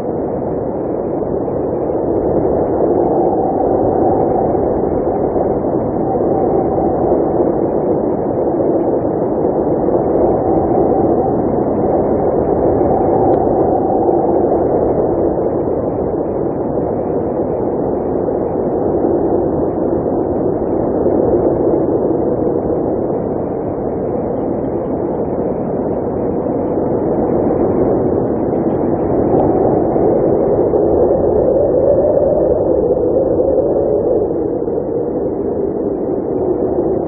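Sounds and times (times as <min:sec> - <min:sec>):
blizzard wind blowing: 0:00.0 - 0:37.0.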